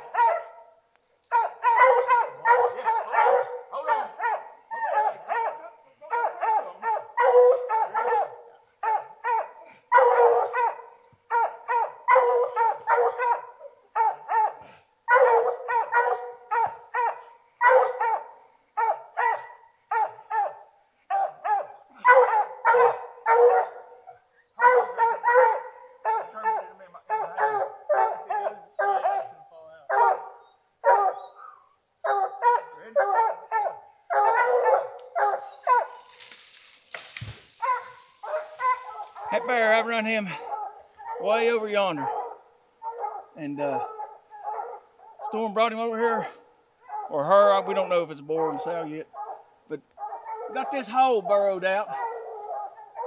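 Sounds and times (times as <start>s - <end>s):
hounds barking: 0.0s - 53.0s.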